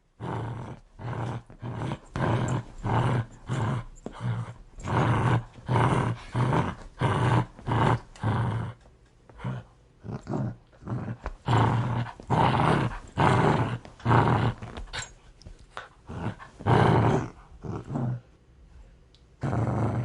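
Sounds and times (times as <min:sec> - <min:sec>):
dog growling aggressively: 0:00.2 - 0:15.2, 0:16.0 - 0:18.3, 0:19.4 - 0:20.0.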